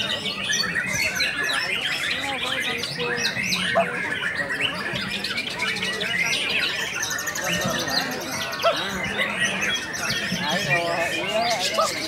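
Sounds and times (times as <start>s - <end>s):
songbirds chorus: 0.0s - 12.0s.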